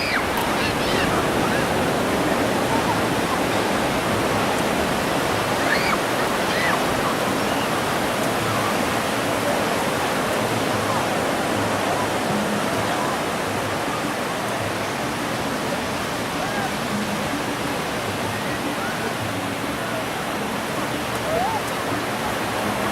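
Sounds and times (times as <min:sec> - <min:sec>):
ocean surf washing onto beach: 0:00.0 - 0:22.9.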